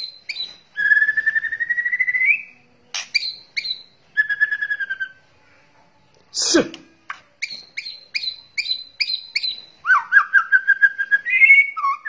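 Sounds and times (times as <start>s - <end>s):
bird trilled whistle: 0.0s - 5.2s, 7.4s - 12.0s.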